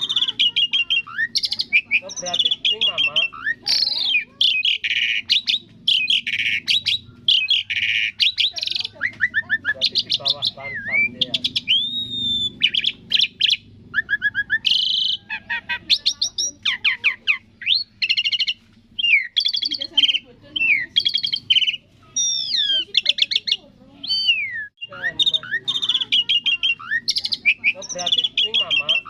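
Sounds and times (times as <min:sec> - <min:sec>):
starling singing: 0:00.0 - 0:29.0.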